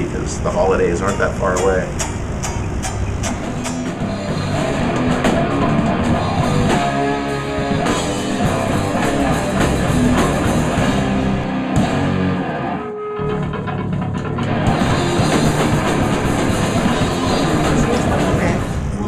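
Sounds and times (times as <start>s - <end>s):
heavy metal music: 2.7s - 19.0s.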